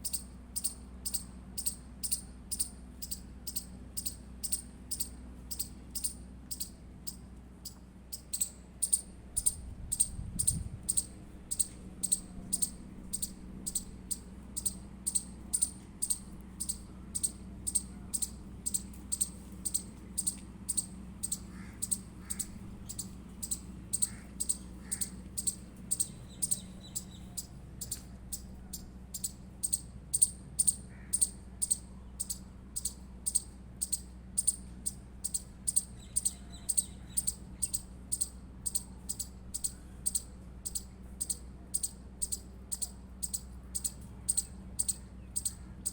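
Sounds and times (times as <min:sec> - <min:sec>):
squirrel chirping call: 0:00.0 - 0:45.9.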